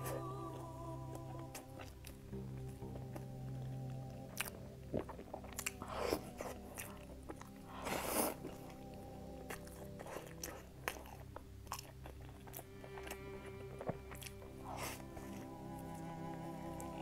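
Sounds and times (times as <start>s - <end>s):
person chewing crusty pastry: 0.0s - 17.0s.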